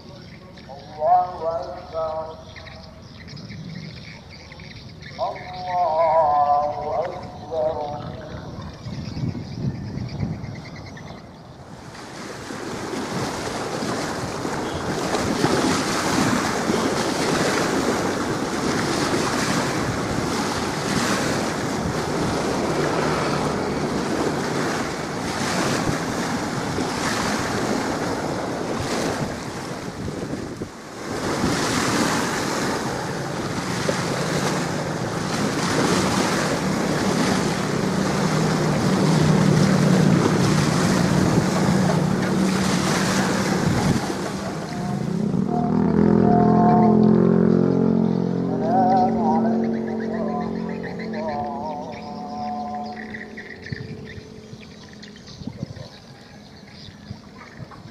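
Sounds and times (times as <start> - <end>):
waves washing in: 0.0 - 9.6, 10.5 - 57.9
wind buffeting microphone: 0.0 - 57.9.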